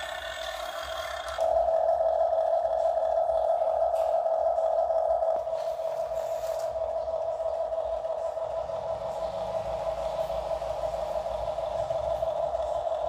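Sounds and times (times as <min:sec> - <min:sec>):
high-pitched electric motor whine: 0:00.0 - 0:13.0.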